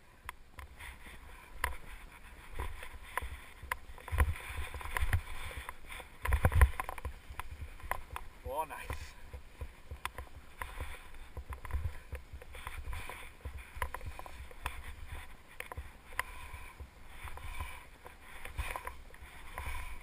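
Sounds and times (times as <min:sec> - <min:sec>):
skis swishing through snow: 0:00.7 - 0:20.0.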